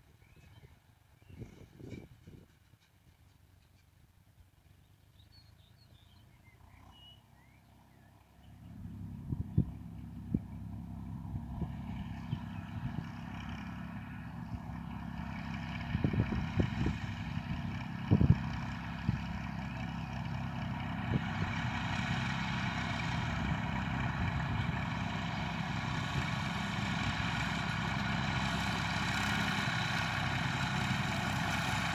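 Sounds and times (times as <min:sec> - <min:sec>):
tractor engine running: 0:00.9 - 0:31.9.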